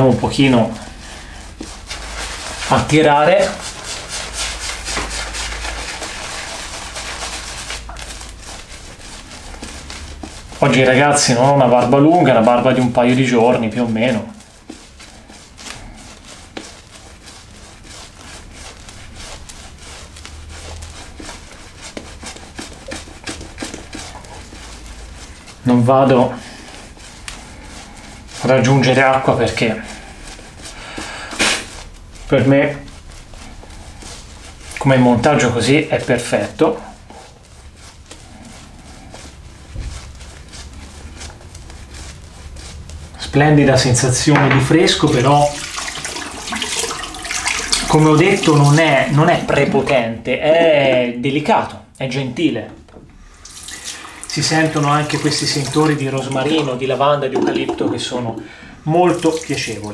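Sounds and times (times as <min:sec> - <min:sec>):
shaving brush rubbing lather: 0:00.0 - 0:59.9.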